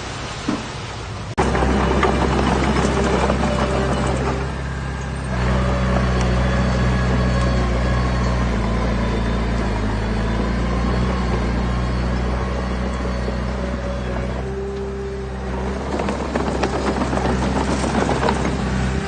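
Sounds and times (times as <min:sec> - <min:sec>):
heavy diesel engine revving: 0:01.4 - 0:19.0.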